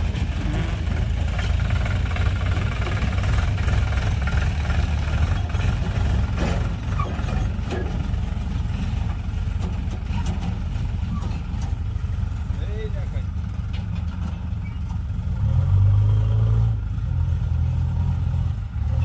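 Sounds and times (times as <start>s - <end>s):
heavy diesel engine rumbling: 0.0s - 19.0s.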